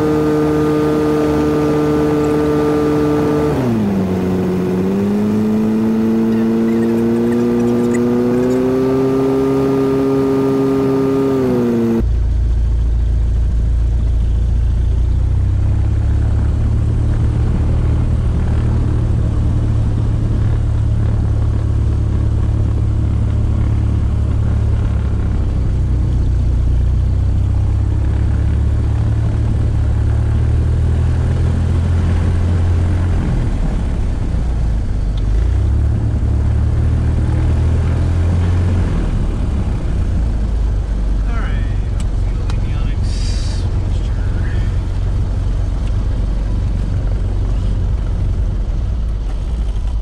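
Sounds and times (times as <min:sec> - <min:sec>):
light aircraft engine drone: 0:00.0 - 0:50.0.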